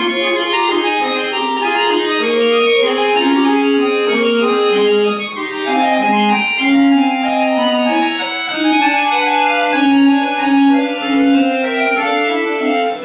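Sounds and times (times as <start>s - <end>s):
button accordion playing: 0.0s - 13.0s.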